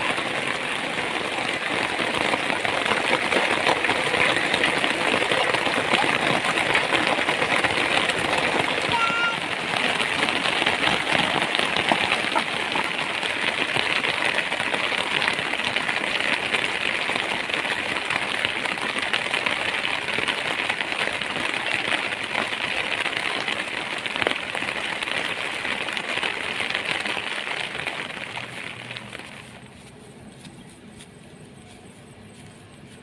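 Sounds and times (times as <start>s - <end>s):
steady rain hissing: 0.0s - 33.0s.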